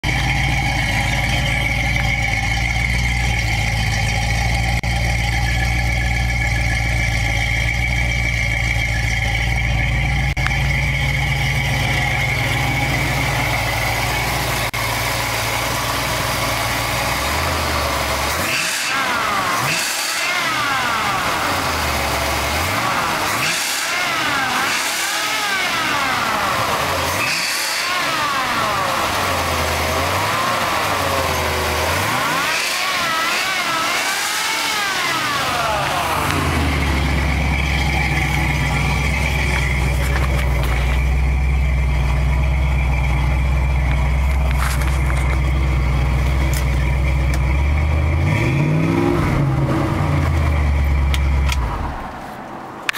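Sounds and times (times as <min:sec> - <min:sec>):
car engine idling and revving: 0:00.0 - 0:52.9.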